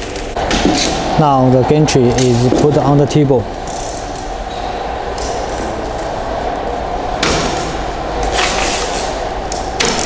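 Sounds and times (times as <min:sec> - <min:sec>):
workshop hum: 0:00.0 - 0:10.0.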